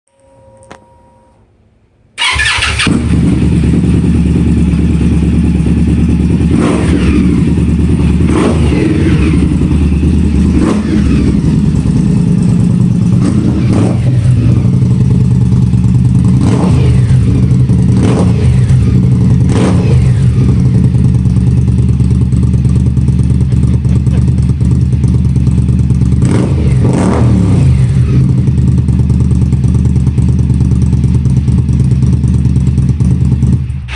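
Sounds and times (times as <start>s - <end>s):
motorcycle engine idling: 2.2s - 26.9s, 27.6s - 33.9s
motorcycle engine revving: 2.2s - 33.9s.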